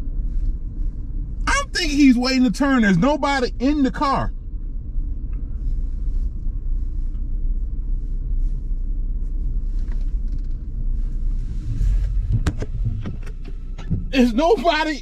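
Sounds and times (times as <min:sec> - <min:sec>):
car rumble inside cabin: 0:00.0 - 0:15.0.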